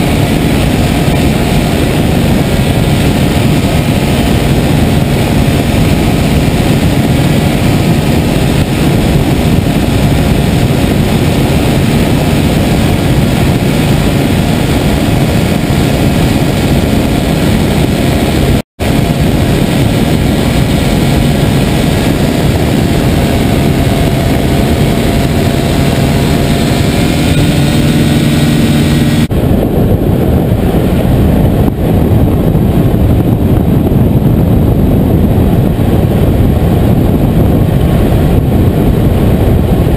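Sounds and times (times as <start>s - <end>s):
small two-stroke engine and propeller: 0.0s - 39.9s.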